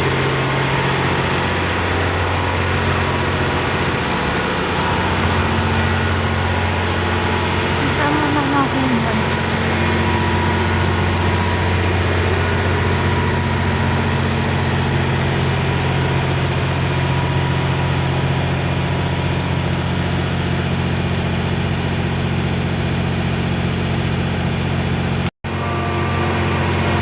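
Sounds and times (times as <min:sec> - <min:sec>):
train engine idling: 0:00.0 - 0:27.0.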